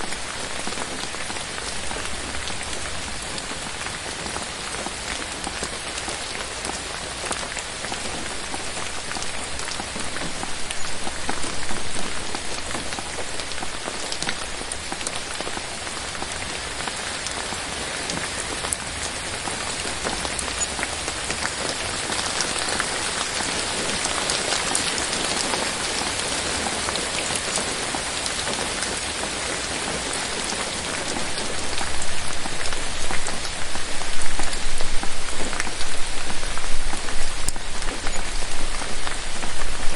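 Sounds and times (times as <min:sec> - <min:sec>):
raindrops tapping: 0:00.0 - 0:39.9
steady rain falling: 0:00.0 - 0:39.9.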